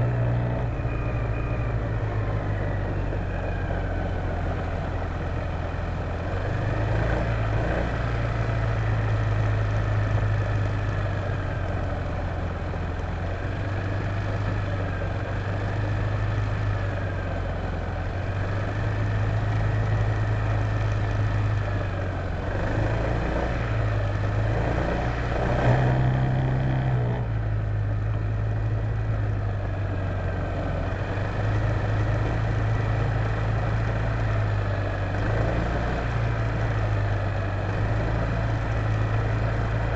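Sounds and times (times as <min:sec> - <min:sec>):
road noise: 0:00.0 - 0:39.9
scooter engine running: 0:00.0 - 0:39.9.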